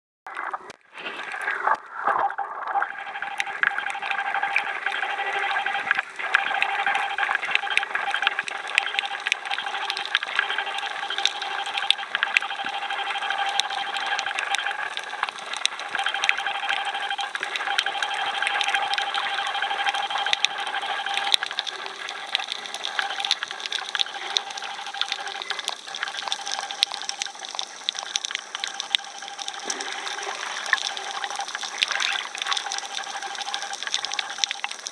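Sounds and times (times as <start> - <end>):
constant underwater hum: 0.3 - 34.9
underwater crackle of clicks: 0.3 - 34.9.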